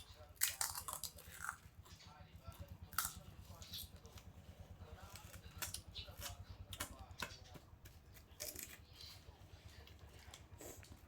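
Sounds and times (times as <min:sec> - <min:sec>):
chewing and crunching food: 0:00.0 - 0:11.0
low steady hum: 0:00.0 - 0:11.0.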